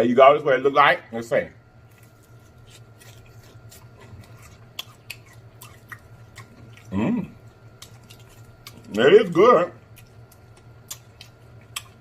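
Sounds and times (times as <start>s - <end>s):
person chewing crunchy food: 1.8s - 12.0s.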